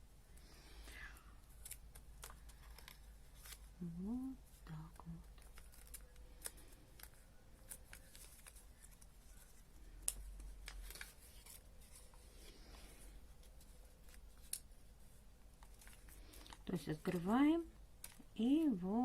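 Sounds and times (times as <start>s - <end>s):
paper crackling and rustling: 1.5s - 18.8s.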